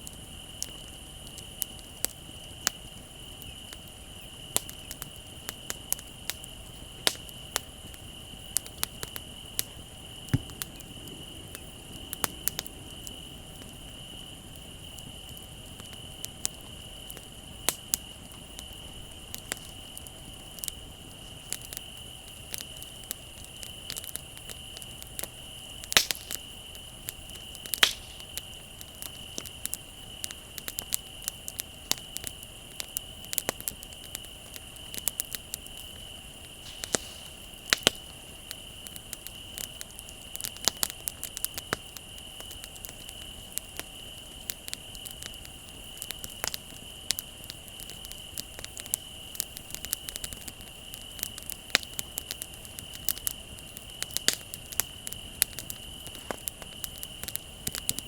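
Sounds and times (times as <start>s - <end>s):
crickets trilling: 0.0s - 58.0s
wood fire crackling: 0.0s - 58.0s.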